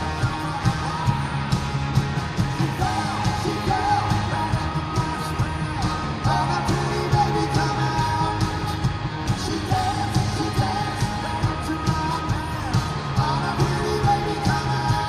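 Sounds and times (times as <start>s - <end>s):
person singing: 0.0s - 1.4s, 2.6s - 15.0s
drums hitting a steady beat: 0.0s - 15.0s
live rock band playing: 0.0s - 15.0s.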